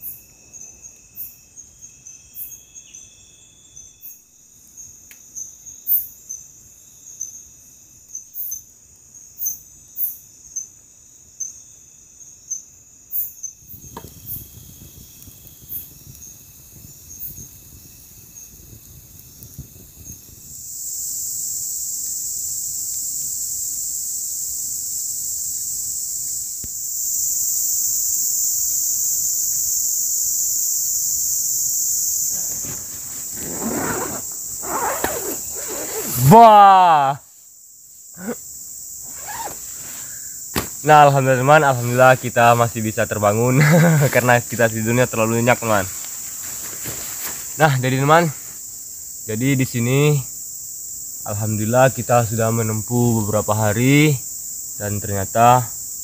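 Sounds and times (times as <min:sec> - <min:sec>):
high-pitched insect chirps: 0:00.0 - 0:47.0.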